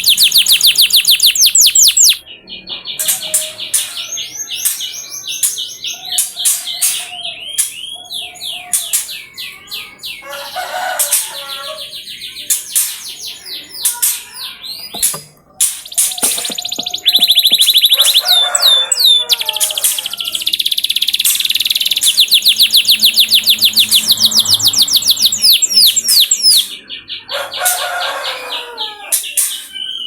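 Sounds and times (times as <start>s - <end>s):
canary singing: 0.0s - 30.0s.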